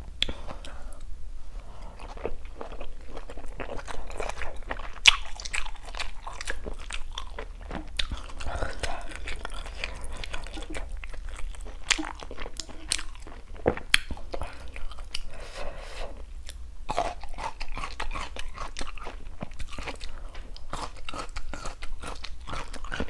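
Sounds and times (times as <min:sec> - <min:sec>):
close chewing mouth clicks: 0:02.0 - 0:15.3, 0:16.5 - 0:23.0.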